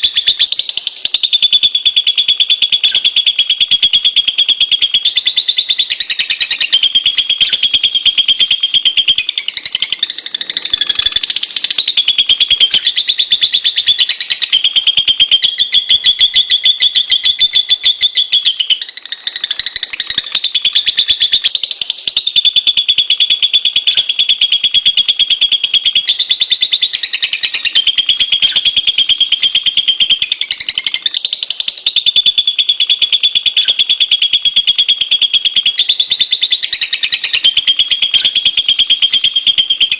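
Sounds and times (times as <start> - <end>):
lovebird chattering: 0.0 - 39.9.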